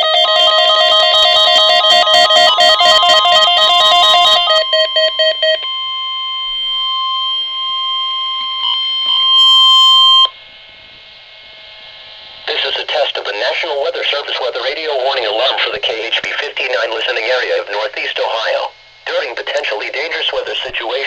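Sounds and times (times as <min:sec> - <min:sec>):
steady alarm tone: 0:00.0 - 0:21.0.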